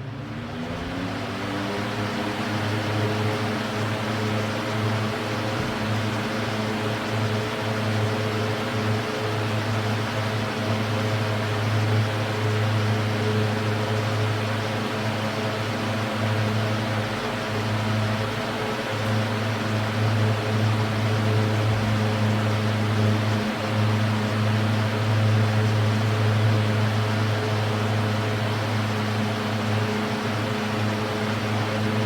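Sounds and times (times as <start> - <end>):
fan motor hum: 0.0 - 32.0.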